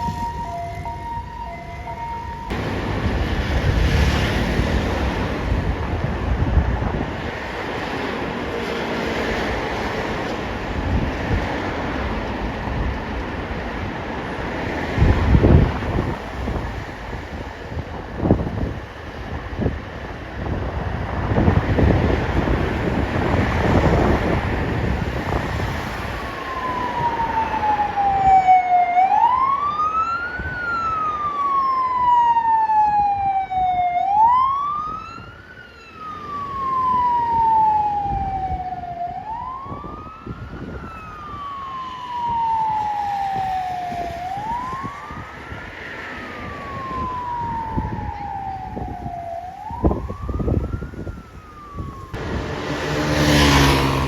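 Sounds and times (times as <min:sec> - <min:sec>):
engine and road rumble: 0:00.0 - 0:54.0
fire engine siren wailing: 0:00.0 - 0:54.0.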